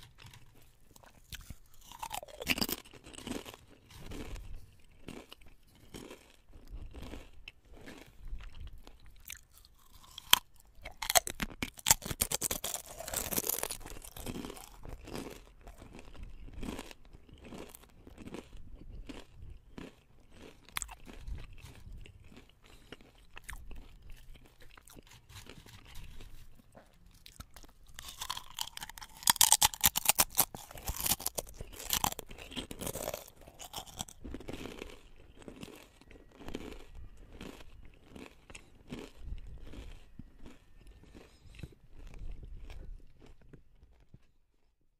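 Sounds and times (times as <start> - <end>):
chewing potato chips crunching: 0.0 - 44.7.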